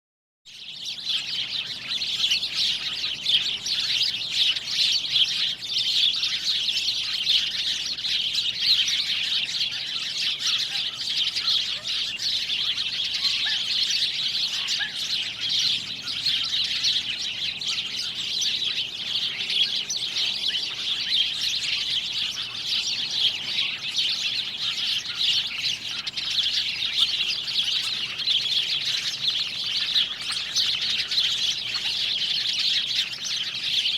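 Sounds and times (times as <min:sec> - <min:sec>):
small birds chirping: 0:00.5 - 0:33.9.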